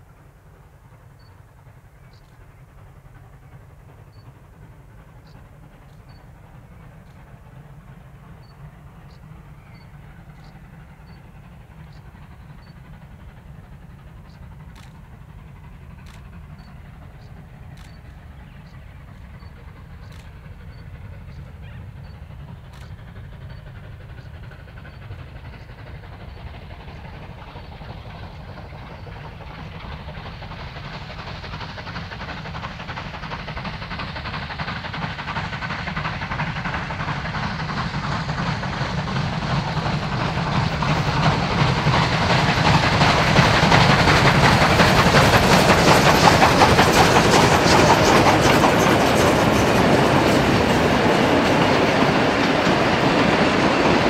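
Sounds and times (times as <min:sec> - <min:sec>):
steam train approaching: 0:00.0 - 0:54.0.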